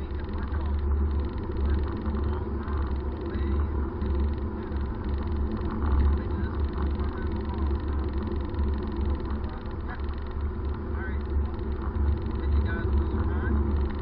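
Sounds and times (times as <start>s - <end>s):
car engine drone: 0.0s - 14.0s
faint voices: 0.0s - 14.0s.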